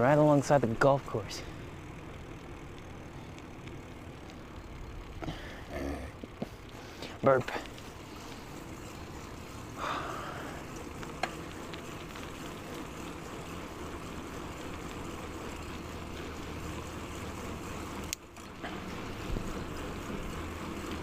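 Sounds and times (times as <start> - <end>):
bicycle tyres rolling on pavement: 0.0 - 21.0.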